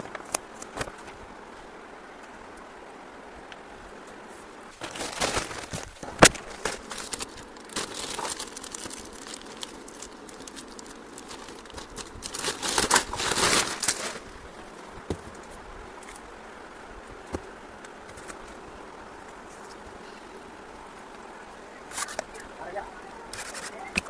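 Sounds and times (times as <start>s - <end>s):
crinkling and rustling handling: 0.0s - 2.6s, 3.5s - 24.0s.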